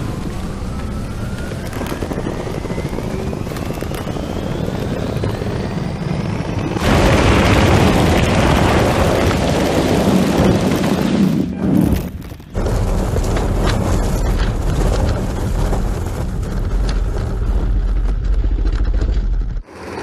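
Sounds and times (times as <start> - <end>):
electric car rumble and whine: 0.0 - 10.0, 12.0 - 20.0
studded tyres churning through snow: 0.0 - 20.0.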